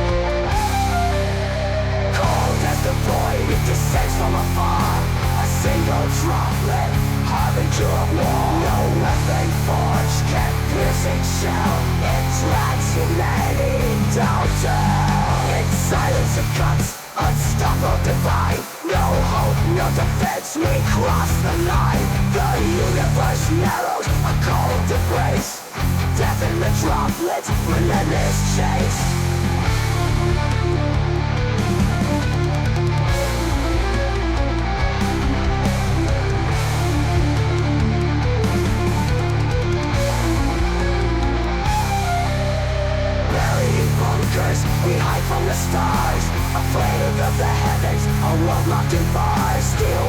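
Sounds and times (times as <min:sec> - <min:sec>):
drums and cymbals: 0:00.0 - 0:01.4, 0:02.2 - 0:50.0
black metal music: 0:00.0 - 0:50.0
distorted electric guitar riffing: 0:00.0 - 0:50.0.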